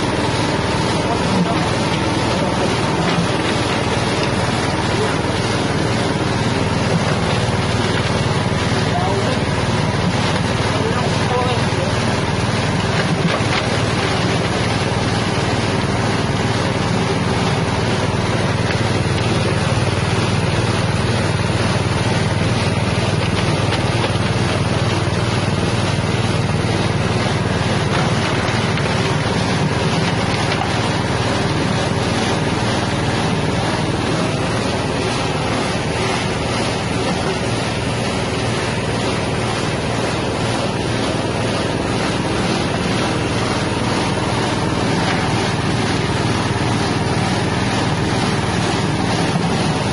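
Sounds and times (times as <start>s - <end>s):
grinding machine running: 0.0s - 49.9s
low engine hum: 0.0s - 49.9s.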